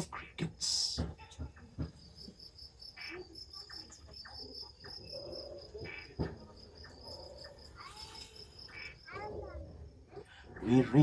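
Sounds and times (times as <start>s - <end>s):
crickets chirping: 0.7s - 11.0s.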